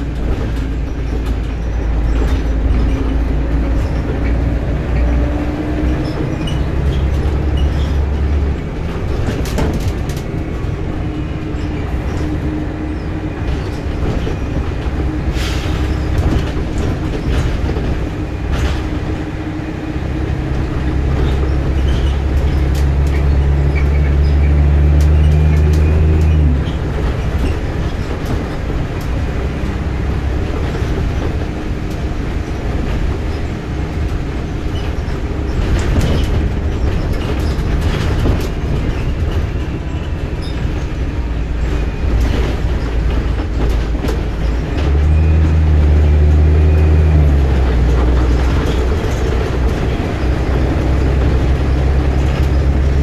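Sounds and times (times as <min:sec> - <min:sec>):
bus engine: 0:00.0 - 0:53.0
road noise: 0:00.0 - 0:53.0.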